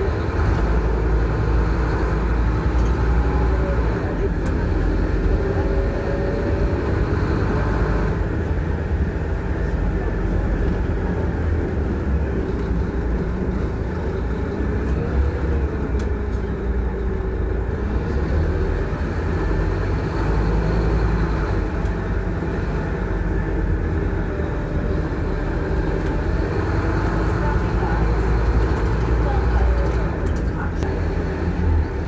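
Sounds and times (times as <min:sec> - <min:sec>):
bus diesel engine and road rumble: 0:00.0 - 0:32.0.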